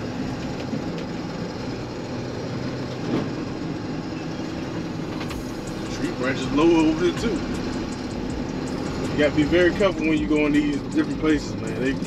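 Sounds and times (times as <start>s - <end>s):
road noise: 0.0s - 12.0s
truck engine hum: 0.0s - 12.0s.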